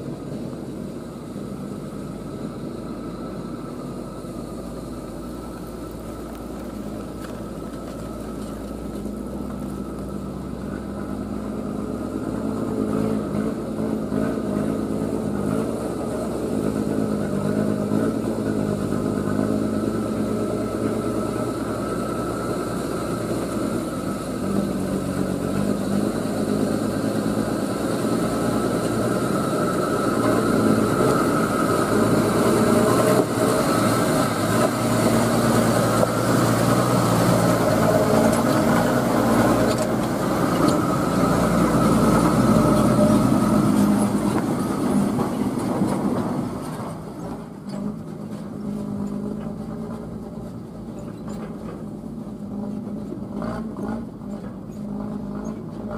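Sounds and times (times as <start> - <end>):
truck engine driving by: 0.0 - 55.9.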